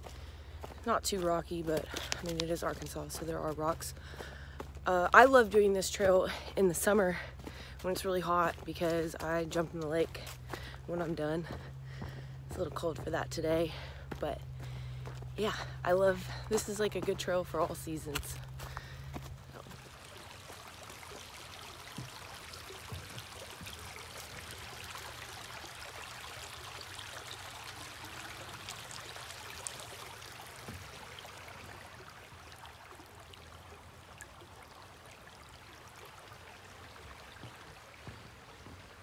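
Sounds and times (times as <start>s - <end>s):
creek trickling and rushing: 0.0s - 39.0s.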